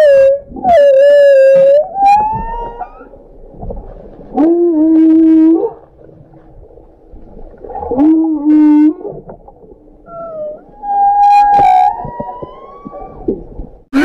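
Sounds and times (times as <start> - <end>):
whale song underwater: 0.0 - 3.4, 4.3 - 6.8, 7.4 - 14.0.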